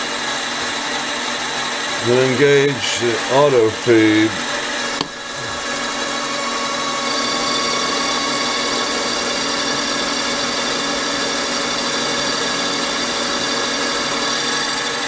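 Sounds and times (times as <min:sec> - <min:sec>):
lathe running: 0:00.2 - 0:15.0.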